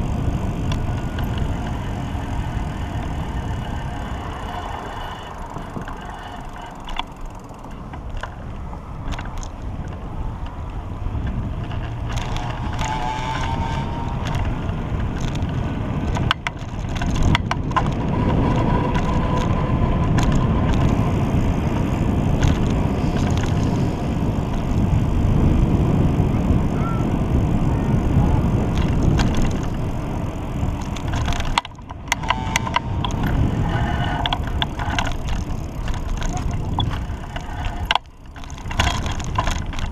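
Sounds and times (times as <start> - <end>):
bicycle clicks and rattles: 0.0 - 39.9
wind and road noise on bicycle: 0.0 - 39.9.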